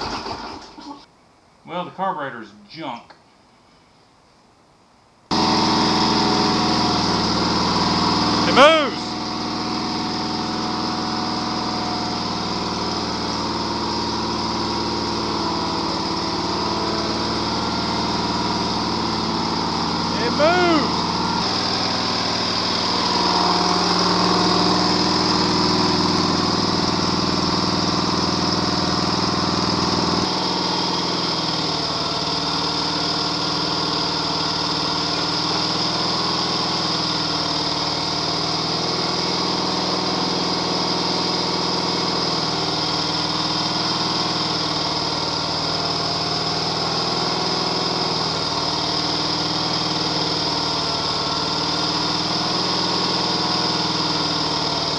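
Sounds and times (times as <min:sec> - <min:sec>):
riding mower engine running: 0:00.0 - 0:00.9, 0:05.3 - 0:54.9.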